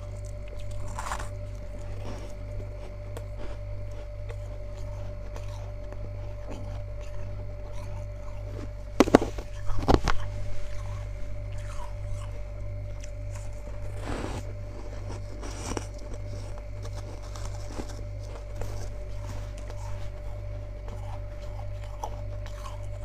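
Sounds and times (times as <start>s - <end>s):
frost crunching: 0.0s - 23.0s
low hum: 0.0s - 23.0s.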